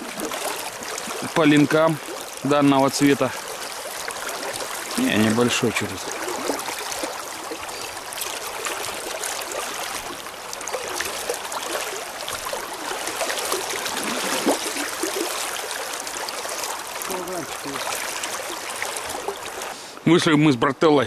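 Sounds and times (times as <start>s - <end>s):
river current rushing: 0.0s - 20.4s.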